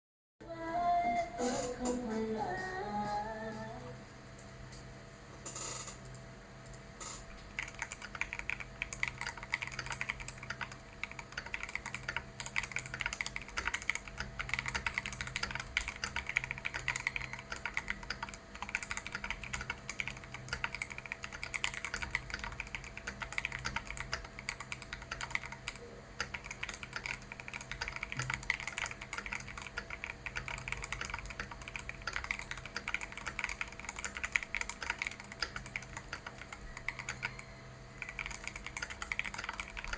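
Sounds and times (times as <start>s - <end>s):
mechanical keyboard typing: 7.0s - 37.4s, 38.0s - 39.9s.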